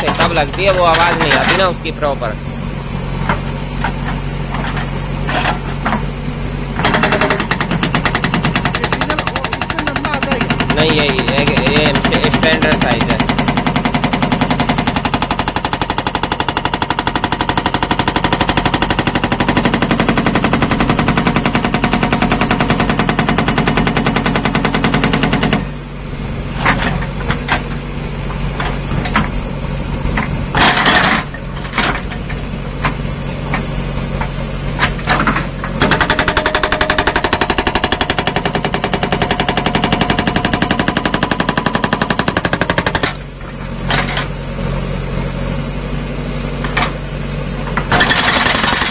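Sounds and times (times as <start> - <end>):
hydraulic rock breaker hammering: 0.0 - 2.4, 3.0 - 25.8, 26.5 - 44.8, 46.5 - 48.9
backhoe engine running: 0.0 - 48.9.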